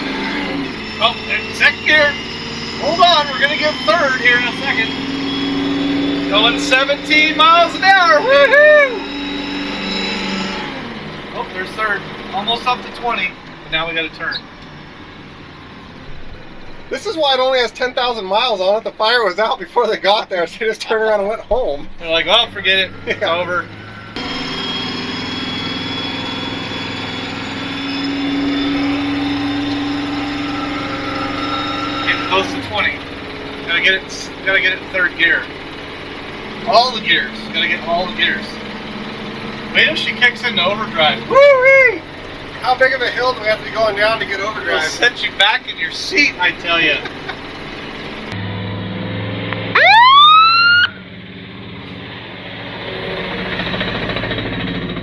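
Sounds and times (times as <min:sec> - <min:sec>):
truck engine running under load: 0:00.0 - 0:55.0.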